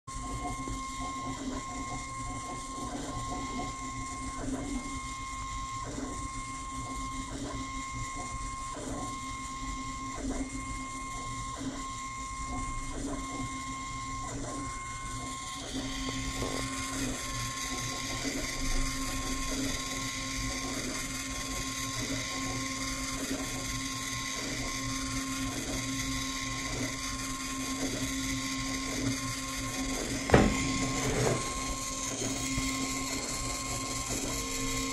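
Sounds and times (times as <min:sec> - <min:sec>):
film scanner chirpy mechanical sound: 0:00.1 - 0:34.9
printer whirring: 0:00.1 - 0:34.9.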